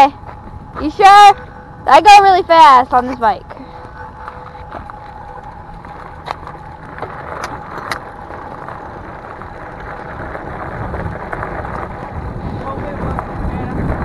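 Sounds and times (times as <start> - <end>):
bike tyres crunching on gravel: 0.0 - 14.0.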